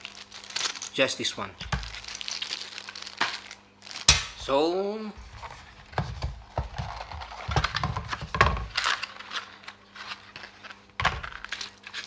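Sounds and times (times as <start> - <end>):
packaging rustling: 0.0 - 4.1, 6.4 - 12.0.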